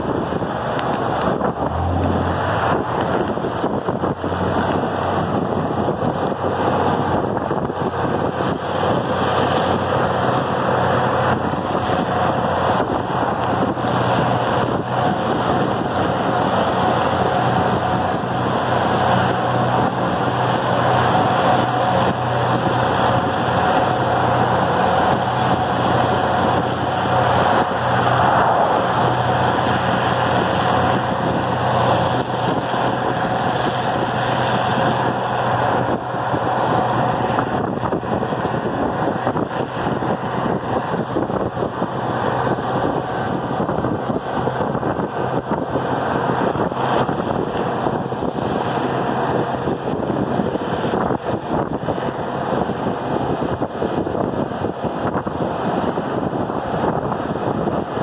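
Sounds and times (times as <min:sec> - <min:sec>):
road noise: 0:00.0 - 0:58.0
tractor engine running: 0:00.0 - 0:58.0
wind noise: 0:00.0 - 0:58.0.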